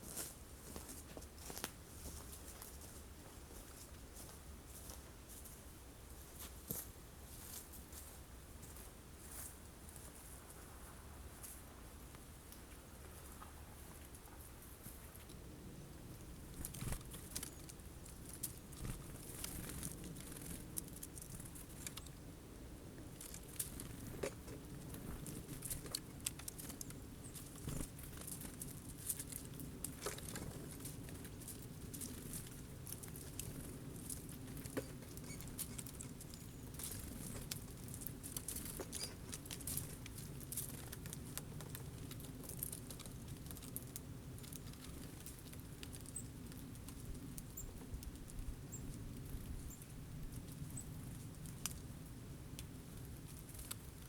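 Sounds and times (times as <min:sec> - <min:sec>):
birds pecking seeds: 0:00.0 - 0:54.0.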